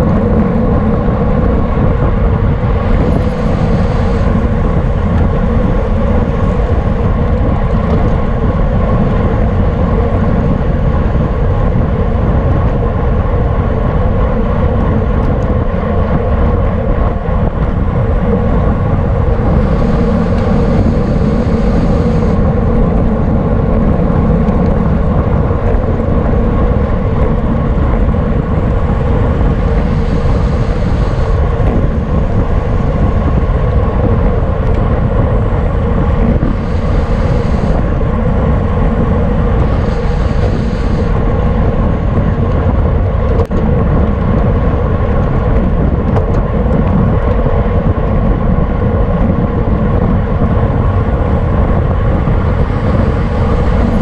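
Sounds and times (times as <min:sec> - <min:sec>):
steady hum: 0:00.0 - 0:54.0
wind and road noise rushing: 0:00.0 - 0:54.0.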